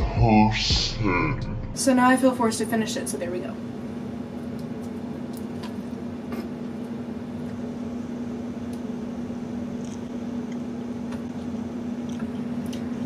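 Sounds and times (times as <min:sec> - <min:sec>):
air conditioning unit humming: 0:00.0 - 0:13.0.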